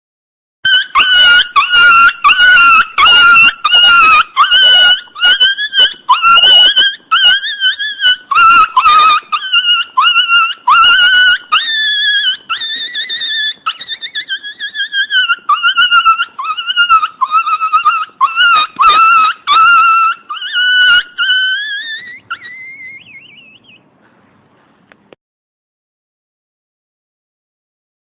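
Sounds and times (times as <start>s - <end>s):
dog squealing and whining: 0.7s - 23.9s.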